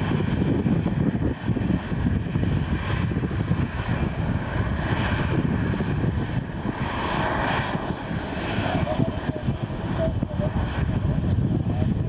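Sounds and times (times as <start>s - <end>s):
jet engine whine: 0.0s - 12.0s
jet engines rumbling: 0.0s - 12.0s.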